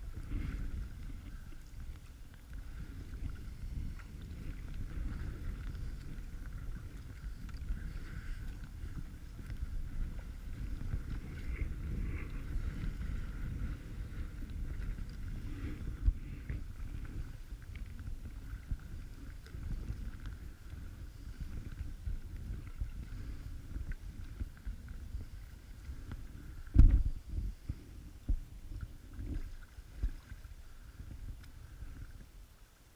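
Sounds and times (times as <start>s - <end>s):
wind on microphone: 0.0s - 32.9s.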